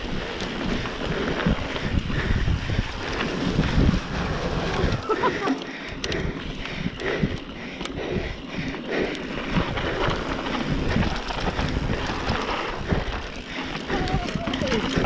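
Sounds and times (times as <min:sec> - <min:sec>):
tyres rolling on dirt trail: 0:00.0 - 0:15.0
wind buffeting microphone: 0:00.0 - 0:15.0.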